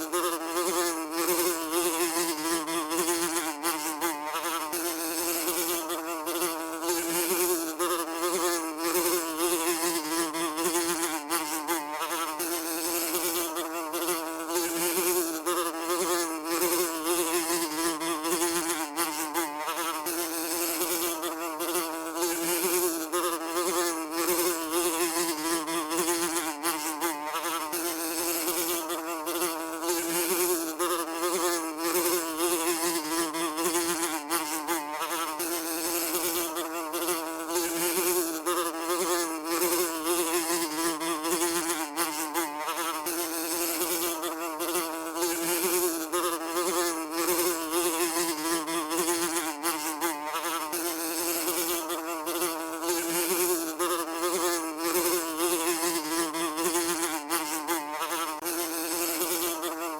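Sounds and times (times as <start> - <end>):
housefly buzzing: 0.0 - 59.9.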